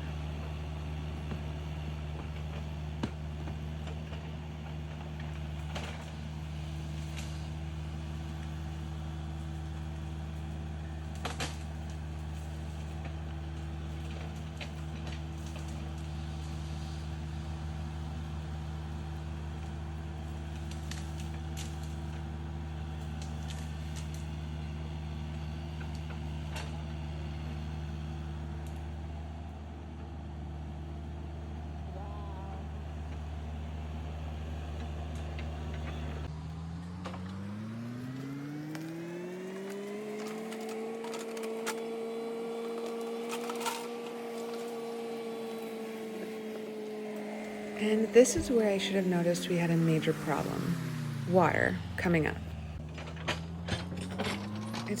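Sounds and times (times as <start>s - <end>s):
diesel engine running and revving: 0.0s - 55.0s.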